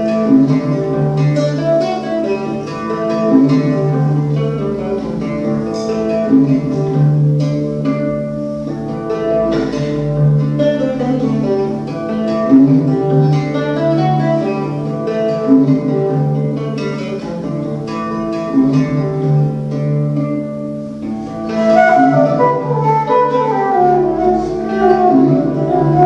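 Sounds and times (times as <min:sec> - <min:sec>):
plucked string melody: 0:00.0 - 0:26.0.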